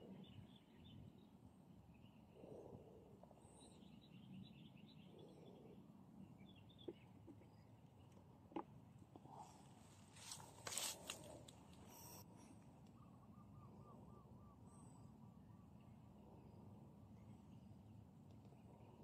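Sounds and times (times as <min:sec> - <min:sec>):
low even hum: 0:00.0 - 0:19.0
small birds chirping: 0:00.0 - 0:19.0.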